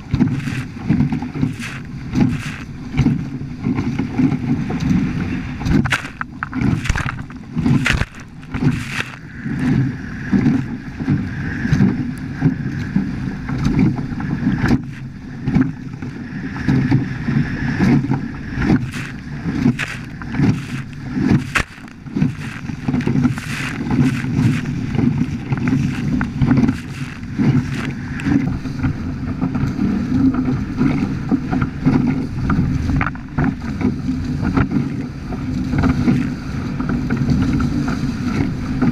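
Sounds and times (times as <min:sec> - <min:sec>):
water slapping against hulls: 0:00.0 - 0:38.9
wind rumbling on microphone: 0:00.0 - 0:38.9.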